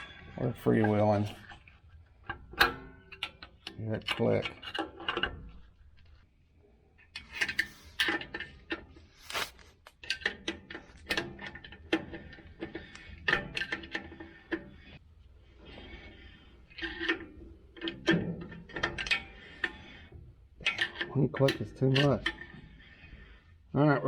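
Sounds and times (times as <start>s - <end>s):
metal tool scraping: 0.0s - 5.8s, 7.2s - 23.6s.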